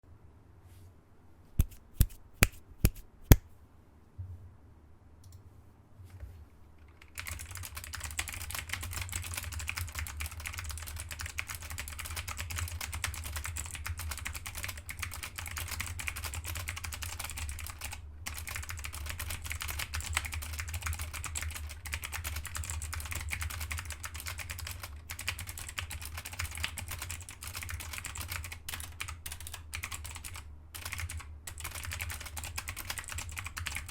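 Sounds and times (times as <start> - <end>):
clicky keyboard typing: 1.6 - 3.4, 6.9 - 33.9.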